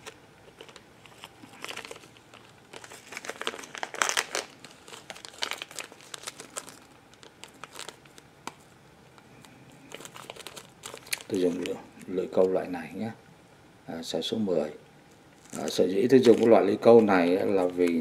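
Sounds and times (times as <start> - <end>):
plastic packet crinkling: 0.0 - 8.7, 9.4 - 12.6, 15.3 - 18.0.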